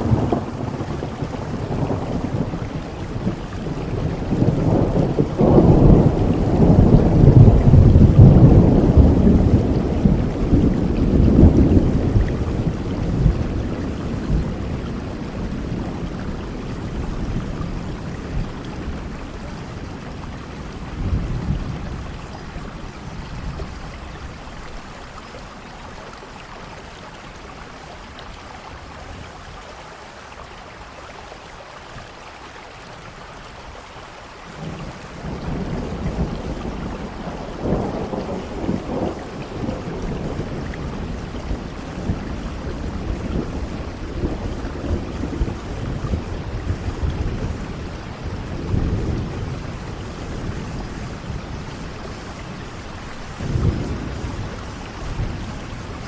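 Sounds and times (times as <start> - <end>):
rolling thunder: 0.0 - 25.3, 34.5 - 56.0
steady rain: 0.0 - 56.0.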